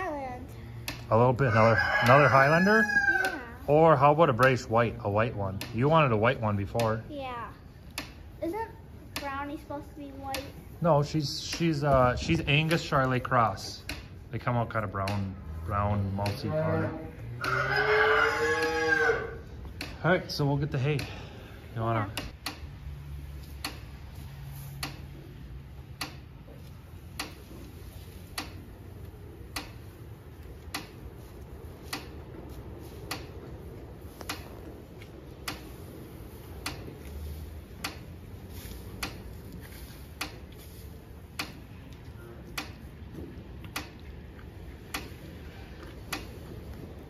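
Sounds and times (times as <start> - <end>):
regular ticking: 0.0 - 47.0.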